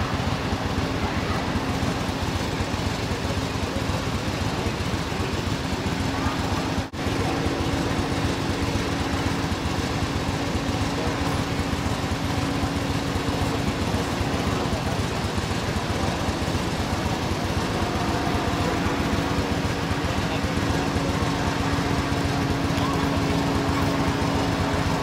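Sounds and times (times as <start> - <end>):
vehicle engines idling: 0.0 - 25.0.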